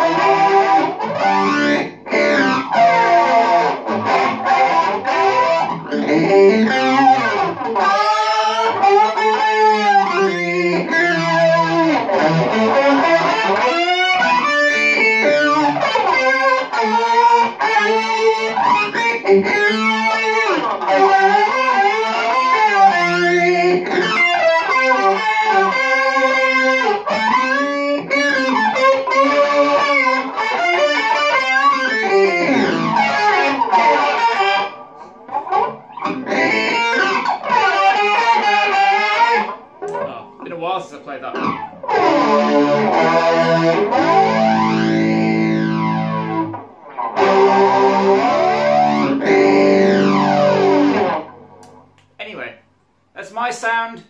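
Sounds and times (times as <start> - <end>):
electric guitar with swooping pitch: 0.0 - 40.4, 41.4 - 52.0.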